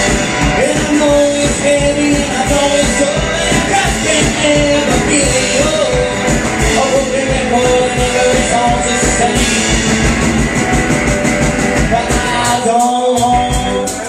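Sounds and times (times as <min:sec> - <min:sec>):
person singing: 0:00.0 - 0:10.3, 0:11.8 - 0:14.0
live rock band playing: 0:00.0 - 0:14.0.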